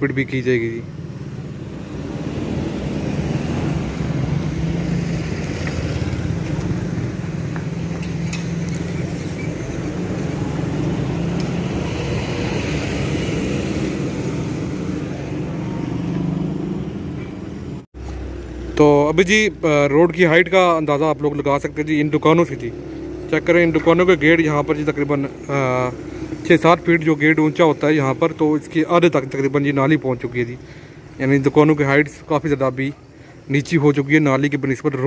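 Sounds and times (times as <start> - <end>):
road noise: 0.0 - 35.0
vehicle engine humming: 0.0 - 35.0.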